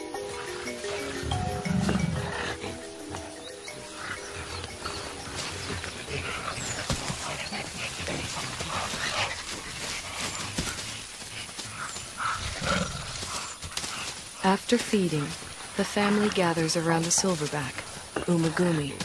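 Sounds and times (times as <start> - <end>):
soft animal grunts: 0.3 - 19.0.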